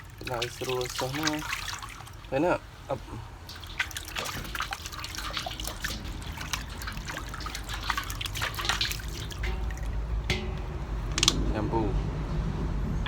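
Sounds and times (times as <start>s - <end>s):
water trickling and splashing: 0.0s - 11.9s.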